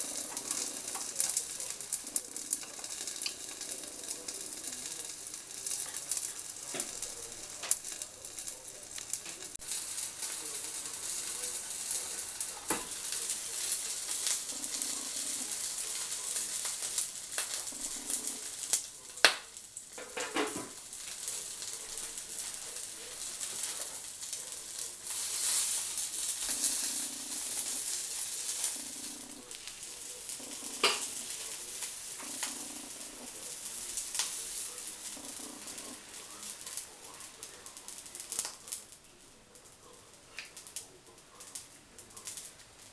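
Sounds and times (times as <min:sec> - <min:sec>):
sausages sizzling on a grill: 0:00.0 - 0:42.9.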